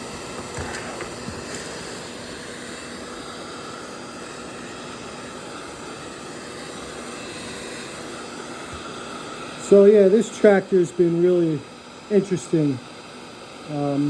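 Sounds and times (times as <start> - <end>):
propane torch flame rushing: 0.0 - 14.0.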